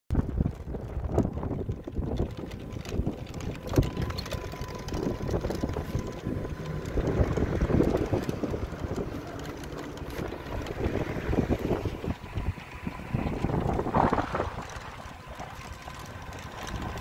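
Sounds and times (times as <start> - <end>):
vehicle rumble: 0.1 - 17.0
wind buffeting microphone: 0.1 - 17.0.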